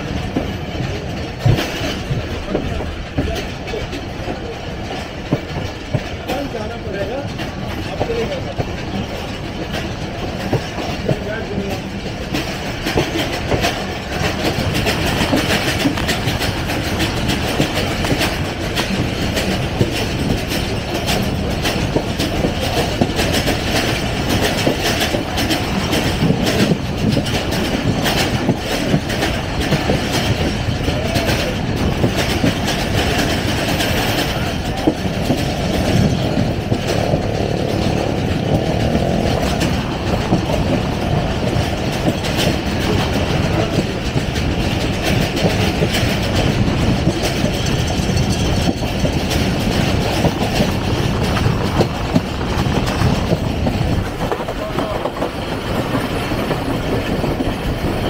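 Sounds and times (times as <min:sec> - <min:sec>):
train wheels clattering over rail joints: 0:00.0 - 0:58.0.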